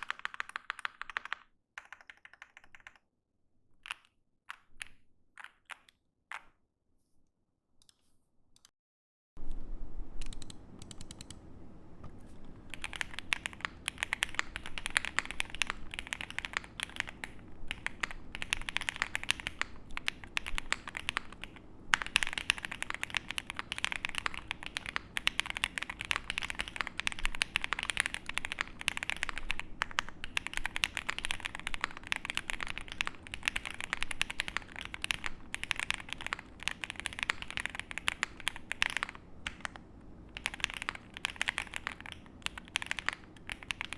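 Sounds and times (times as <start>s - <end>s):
mechanical keyboard typing: 0.0s - 3.0s, 3.8s - 6.5s, 10.2s - 11.4s, 12.6s - 43.9s.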